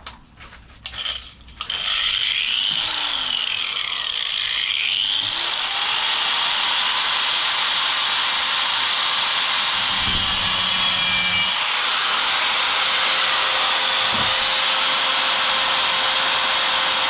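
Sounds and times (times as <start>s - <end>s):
power tool cutting sheet steel: 1.6s - 17.0s.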